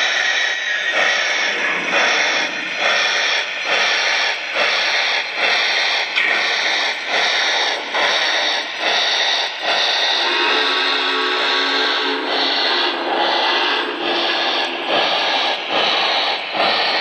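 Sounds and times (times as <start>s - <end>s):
hissing steam chuff: 0.0s - 17.0s.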